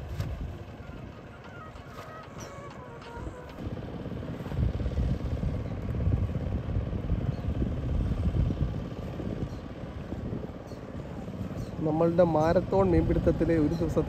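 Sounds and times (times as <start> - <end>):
wind buffeting microphone: 0.0 - 1.5, 2.3 - 14.0.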